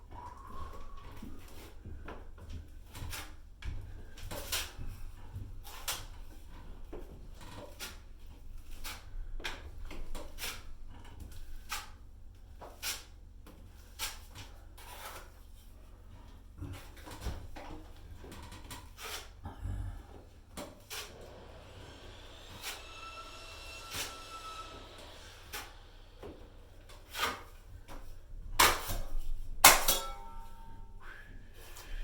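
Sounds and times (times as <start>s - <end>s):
drywall knife scraping compound: 0.1s - 30.8s, 31.4s - 32.0s.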